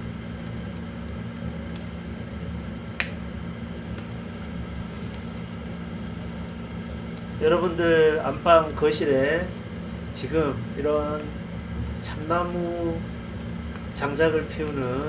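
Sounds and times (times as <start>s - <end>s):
steady low hum: 0.0s - 15.0s
wood fire crackling and popping: 0.0s - 15.0s.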